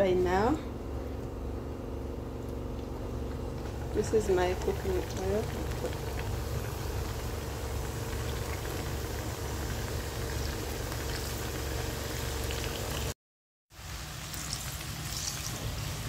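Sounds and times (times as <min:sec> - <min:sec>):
pastries deep-frying in oil: 0:02.8 - 0:16.0.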